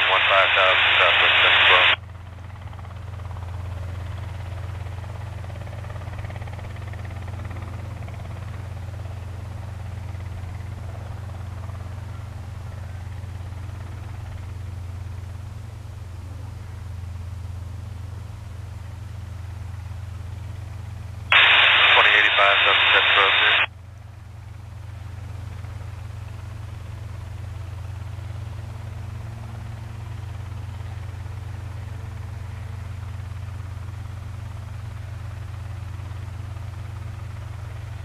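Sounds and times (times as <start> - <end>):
helicopter low drone: 0.0 - 38.0.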